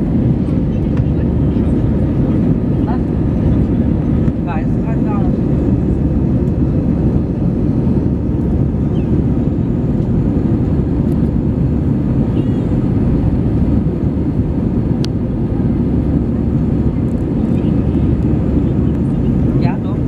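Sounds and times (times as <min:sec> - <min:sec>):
jet engine roar in cabin: 0:00.0 - 0:20.0.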